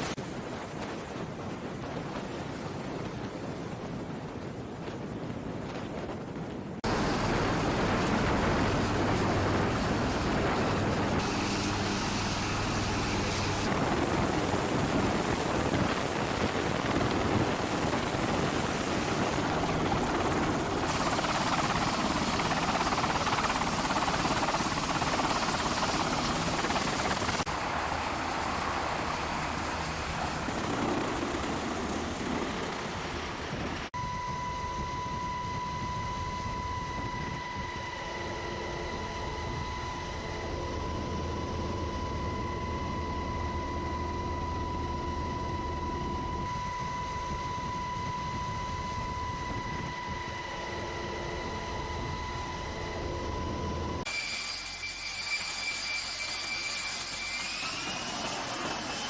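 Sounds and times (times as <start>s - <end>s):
aircraft engine rushing: 6.8s - 54.1s.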